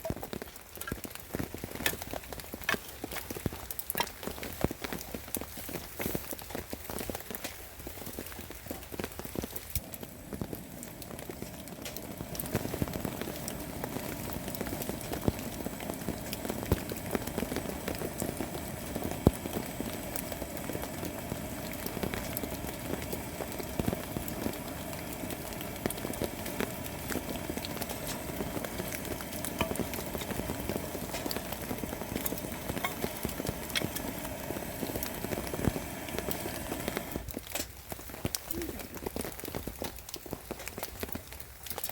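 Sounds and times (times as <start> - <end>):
campfire crackling: 0.0 - 41.9.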